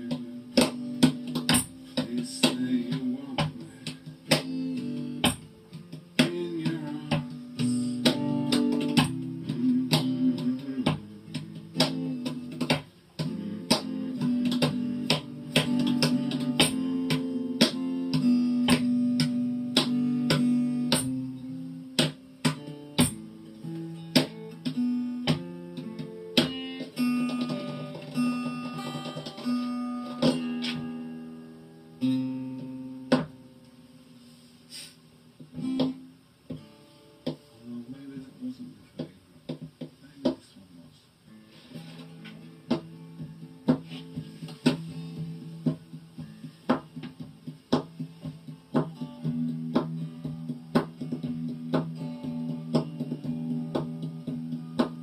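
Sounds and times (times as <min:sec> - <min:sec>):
acoustic guitar strumming: 0:00.0 - 0:40.3, 0:41.3 - 0:55.0
picked guitar notes: 0:00.0 - 0:40.4, 0:41.2 - 0:55.0.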